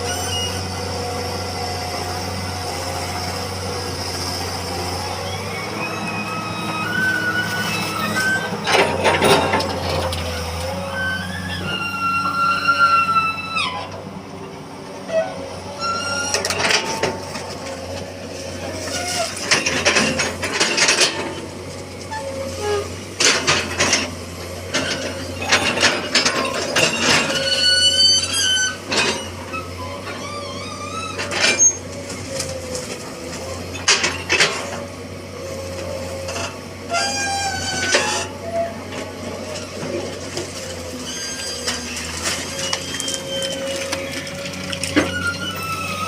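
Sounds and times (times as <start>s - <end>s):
excavator engine hum: 0.0s - 46.0s.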